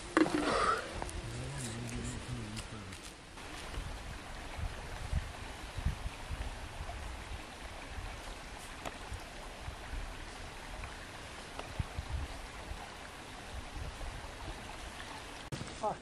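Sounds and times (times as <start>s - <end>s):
stream running over stones: 0.0s - 16.0s.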